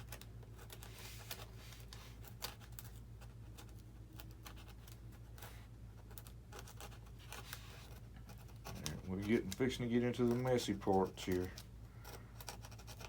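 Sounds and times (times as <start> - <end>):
low steady hum: 0.0 - 13.0
scratching on foam: 0.0 - 13.0.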